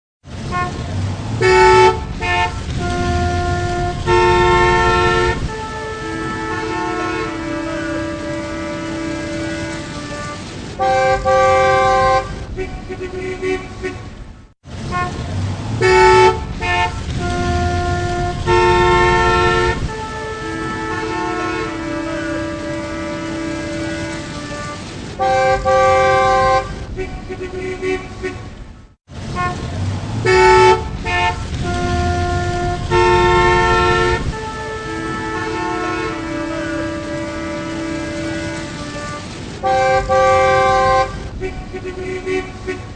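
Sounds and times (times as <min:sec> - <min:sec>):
rumble of engines: 0:00.2 - 0:42.9
car horns honking: 0:00.4 - 0:14.2, 0:14.8 - 0:28.6, 0:29.2 - 0:42.9.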